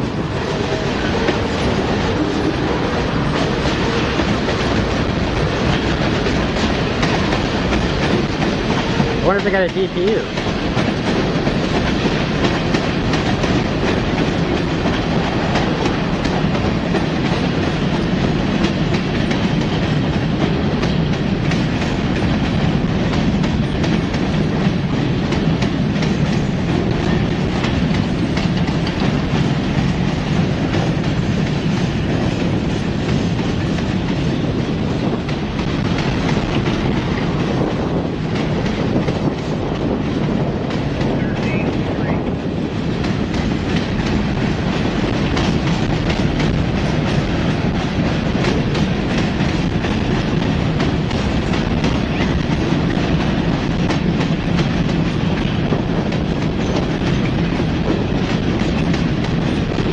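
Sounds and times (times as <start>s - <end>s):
freight train rumbling: 0.0s - 59.9s
wheels clacking over rail joints: 0.0s - 59.9s.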